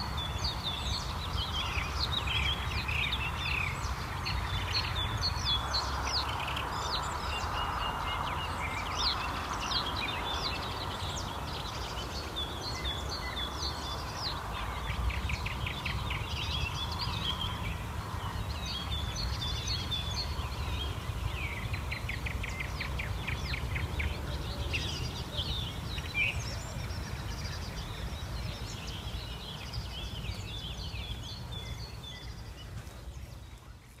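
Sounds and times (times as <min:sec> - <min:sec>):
songbirds chorus: 0:00.0 - 0:34.0.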